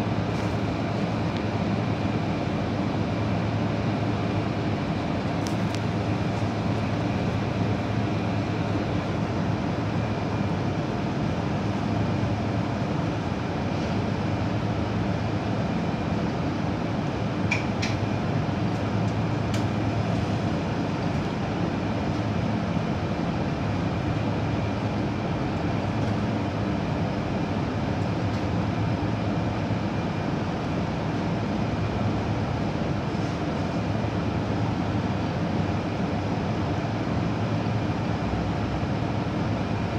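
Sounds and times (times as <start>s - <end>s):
microwave oven humming: 0.0s - 39.9s.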